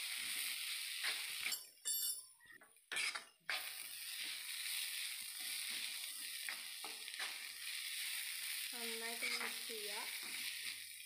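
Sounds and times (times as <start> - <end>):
onions sizzling in oil: 0.0 - 1.6, 2.9 - 11.0
spatula scraping pan: 0.0 - 1.7, 2.9 - 11.0.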